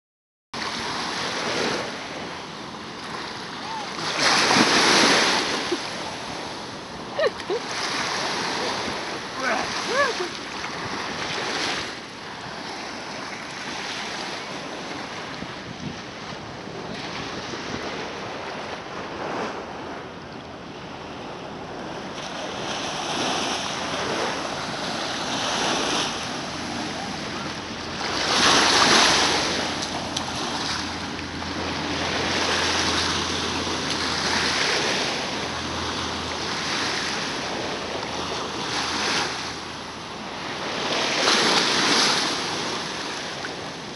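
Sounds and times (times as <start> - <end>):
small waves breaking on beach: 0.6 - 43.9.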